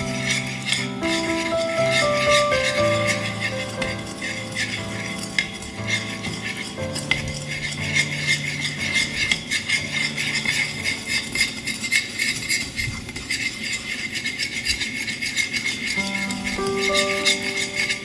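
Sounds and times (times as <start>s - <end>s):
spoon scraping ceramic bowl: 0.1s - 18.0s.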